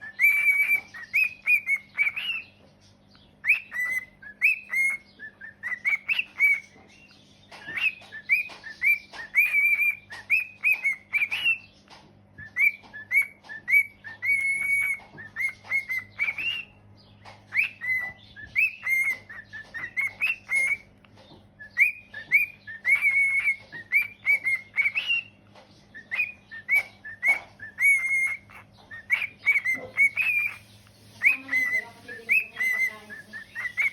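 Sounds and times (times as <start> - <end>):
cockatiel whistling and chirping: 0.0 - 33.9.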